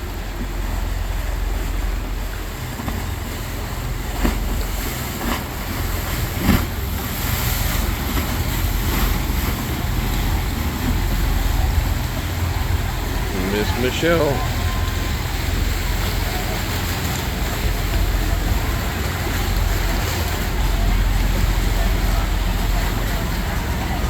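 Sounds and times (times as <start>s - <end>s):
choppy water washing: 0.0s - 24.0s
motorboats passing: 0.0s - 24.0s.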